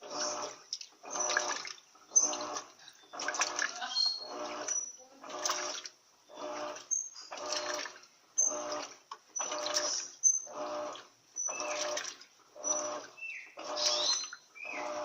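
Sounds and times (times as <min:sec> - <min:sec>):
washing machine agitating: 0:00.0 - 0:15.0.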